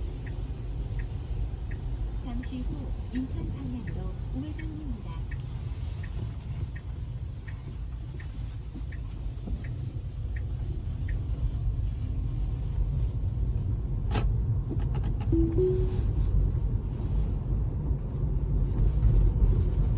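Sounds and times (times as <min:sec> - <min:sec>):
turn signal ticking: 0:00.0 - 0:16.2.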